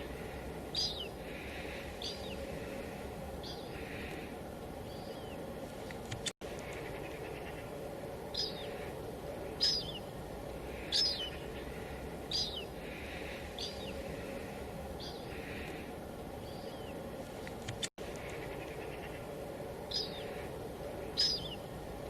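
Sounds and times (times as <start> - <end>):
bird calling: 0.0 - 21.8
steady white noise: 0.0 - 22.0.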